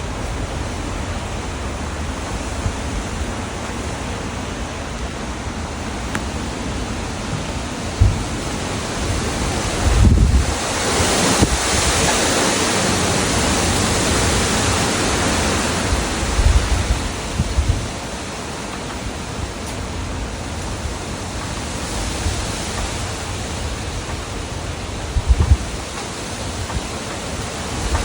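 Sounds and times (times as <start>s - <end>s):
strong wind rushing: 0.0s - 18.2s, 21.8s - 28.0s
wind buffeting microphone: 0.0s - 28.0s.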